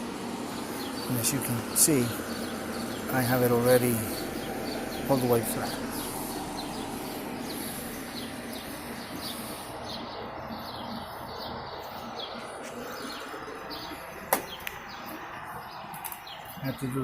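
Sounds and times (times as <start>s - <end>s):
outdoor background hum: 0.0s - 17.0s
small bird chirping: 0.5s - 16.8s.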